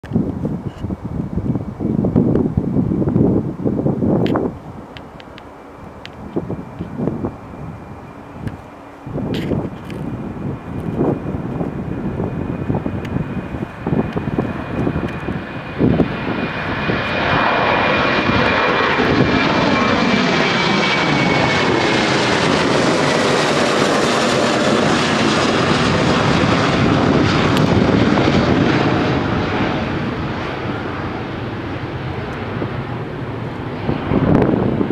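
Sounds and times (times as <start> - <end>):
jet engines roaring overhead: 0.0 - 34.9
wind gusts on microphone: 0.0 - 34.9.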